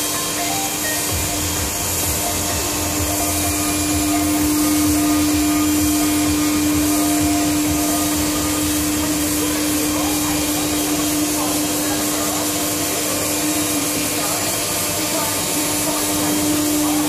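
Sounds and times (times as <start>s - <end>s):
continuous machine hiss: 0.0s - 17.0s
milling machine spindle whine: 0.0s - 17.0s.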